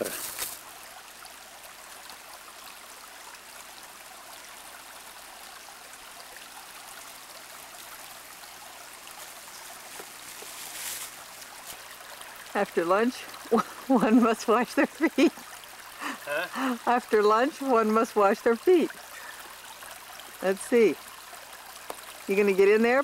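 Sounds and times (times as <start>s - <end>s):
water rushing over stones: 0.0s - 23.0s.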